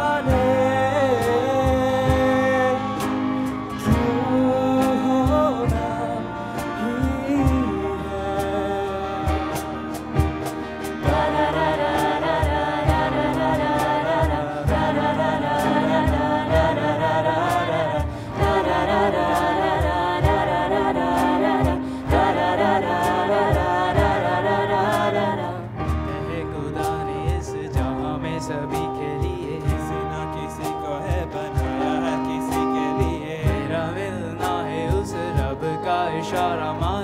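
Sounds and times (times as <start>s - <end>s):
acoustic guitar: 0.0s - 37.0s
cajon beat: 0.0s - 37.0s
group singing in harmony: 0.0s - 37.0s
keyboard: 0.0s - 37.0s.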